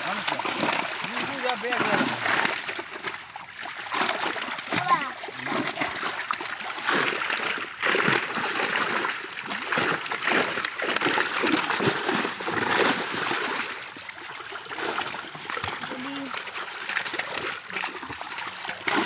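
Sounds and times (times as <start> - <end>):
fish thrashing and splashing: 0.0 - 19.0.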